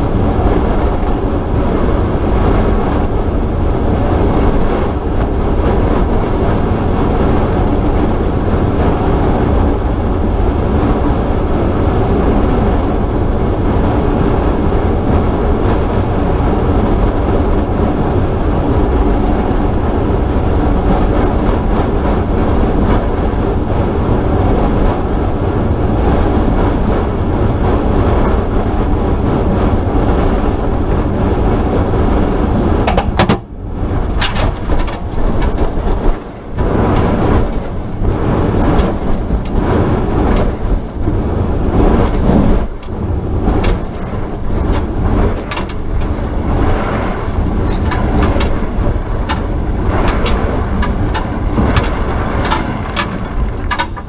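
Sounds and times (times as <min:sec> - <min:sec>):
air buffeting camera: 0:00.0 - 0:54.0.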